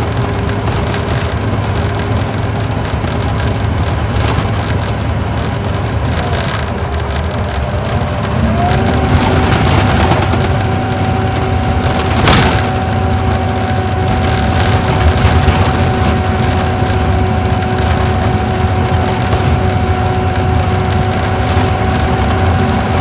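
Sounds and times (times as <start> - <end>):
coach engine and road rumble: 0.0 - 23.0
constant whine: 0.0 - 23.0.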